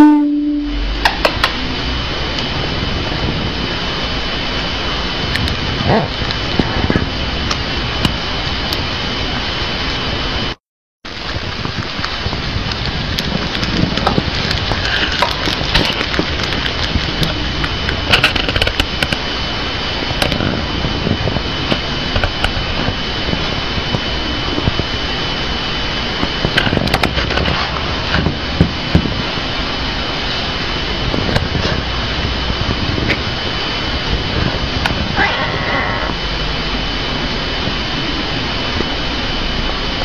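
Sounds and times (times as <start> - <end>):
thin high whine: 0.0 - 11.2, 14.6 - 40.0
loud hum and hiss: 0.0 - 40.0.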